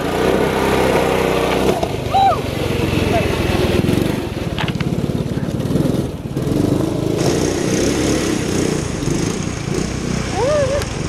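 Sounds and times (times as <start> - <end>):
small gas engine revving: 0.0 - 11.0.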